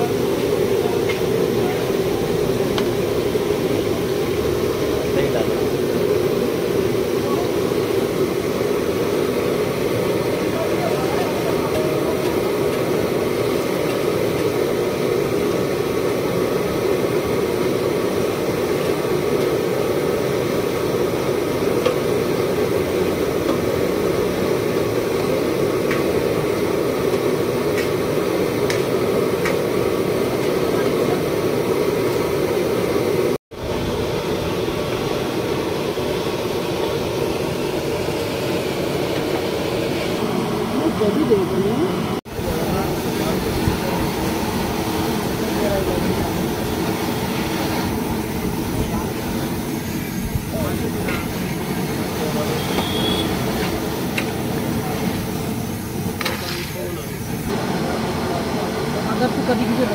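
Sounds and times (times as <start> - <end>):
steady machine running noise: 0.0 - 59.9.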